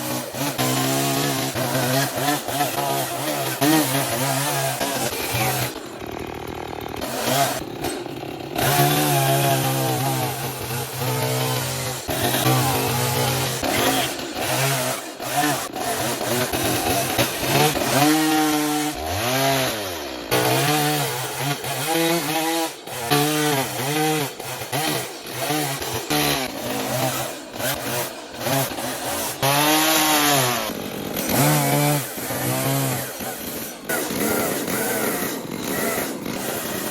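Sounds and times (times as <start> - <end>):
chainsaw engine revving and idling: 0.0 - 36.9.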